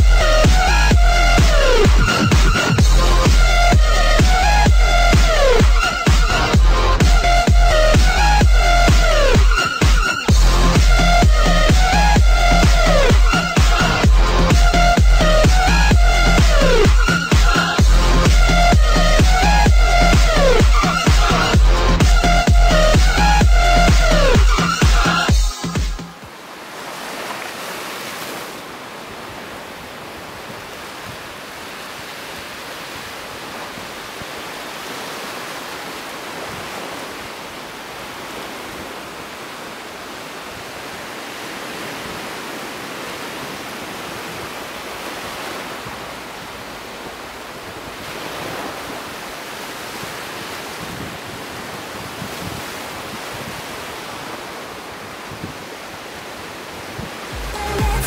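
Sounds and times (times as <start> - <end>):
surf washing on beach: 0.0 - 58.0.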